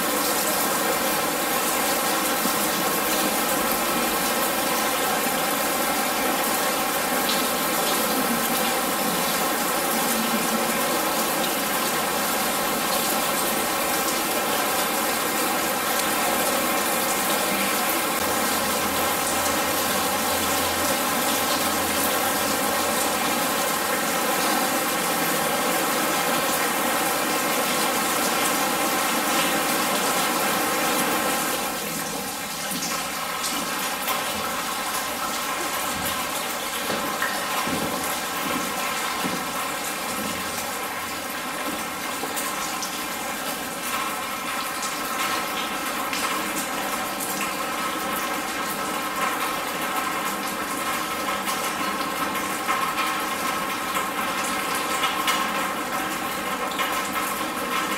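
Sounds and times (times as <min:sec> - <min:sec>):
water falling on metal roof: 0:00.0 - 0:57.9.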